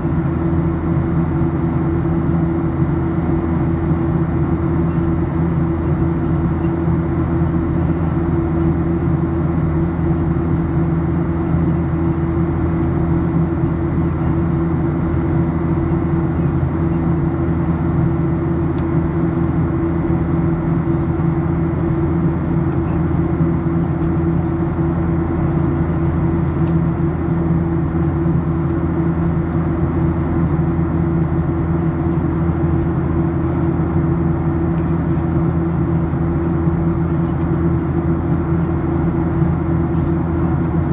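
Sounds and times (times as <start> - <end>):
airplane cabin drone: 0.0 - 40.9.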